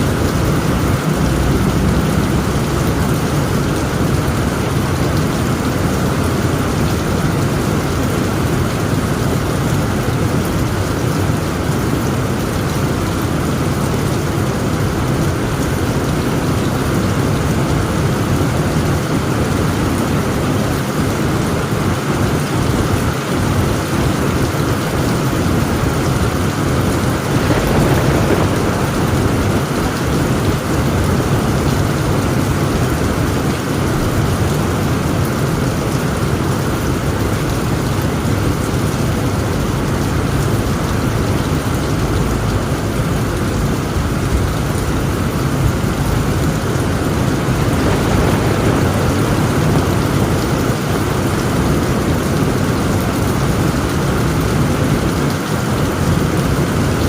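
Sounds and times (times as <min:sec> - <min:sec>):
thunder rumbling: 0:00.0 - 0:21.0, 0:24.3 - 0:55.2
heavy rain on a tent roof: 0:00.0 - 0:57.0.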